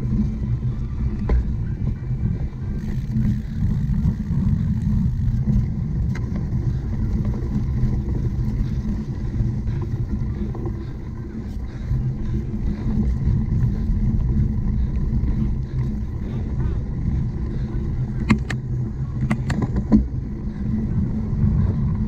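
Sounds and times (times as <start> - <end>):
wind buffeting: 0.0 - 22.0
faint clicks and rattles: 1.1 - 22.0.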